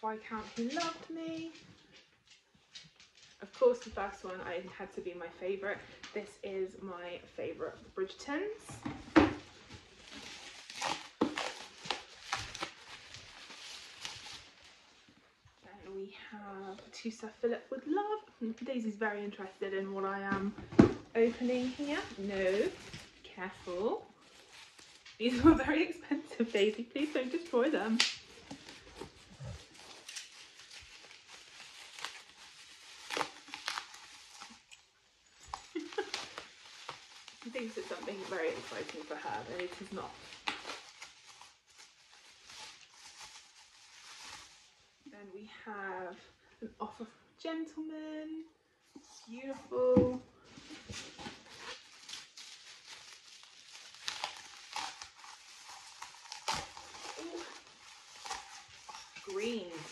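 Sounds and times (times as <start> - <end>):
bubble wrap crinkling: 0.0 - 16.0, 18.0 - 45.1, 48.9 - 59.9.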